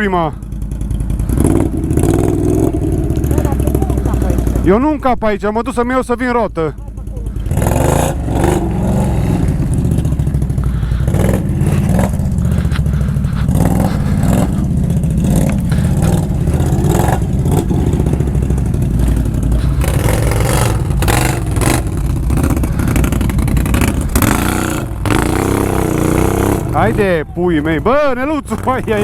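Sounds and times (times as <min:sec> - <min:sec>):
atv engine running: 0:00.0 - 0:29.0
knocks and clatter over rough ground: 0:00.0 - 0:29.0.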